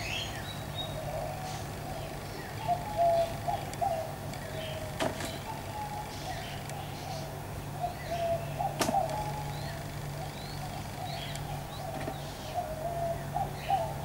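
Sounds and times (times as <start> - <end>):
birds whistling and chirping: 0.0 - 14.0
steady low hum: 0.0 - 14.0.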